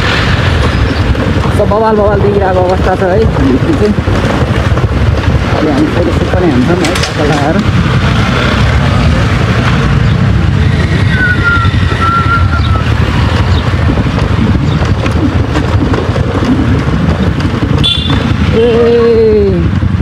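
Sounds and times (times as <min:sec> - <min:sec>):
motorcycle engine: 0:00.0 - 0:20.0
wind buffeting microphone: 0:00.0 - 0:20.0.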